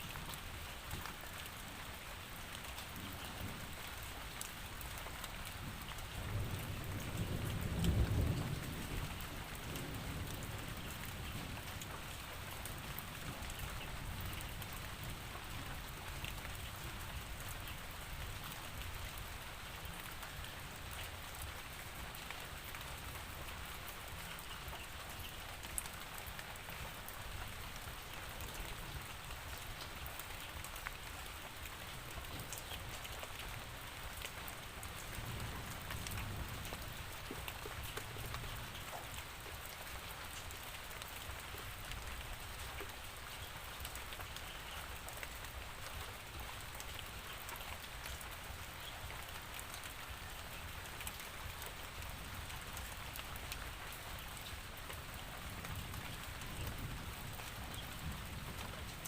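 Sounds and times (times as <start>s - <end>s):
rain drops ticking on surface: 0.0s - 59.0s
rain hiss: 0.0s - 59.0s.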